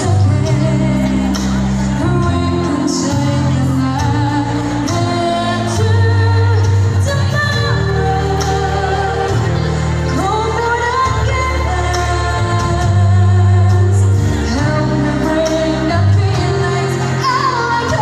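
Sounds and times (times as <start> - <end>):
backing music with bass line: 0.0 - 18.0
woman singing into a microphone: 0.0 - 18.0.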